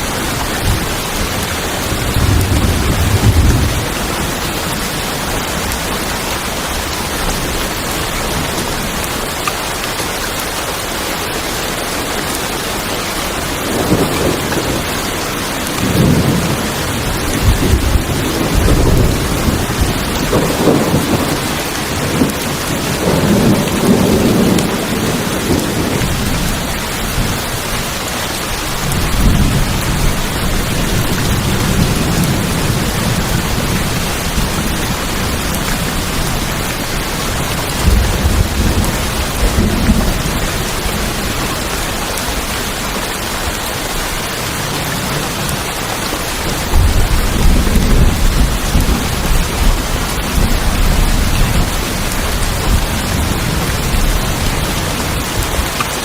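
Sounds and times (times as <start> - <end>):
thunder rumbling: 0.0 - 9.4, 13.4 - 56.0
heavy rain on a tin roof: 0.0 - 56.0.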